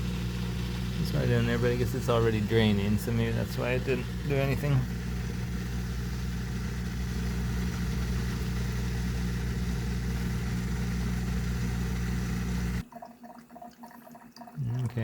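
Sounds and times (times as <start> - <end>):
drain pump humming: 0.0 - 15.0.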